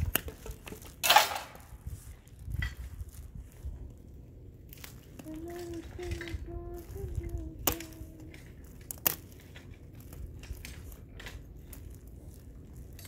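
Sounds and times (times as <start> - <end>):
low steady rumble: 0.0 - 13.0
steady humming tone: 0.0 - 13.0.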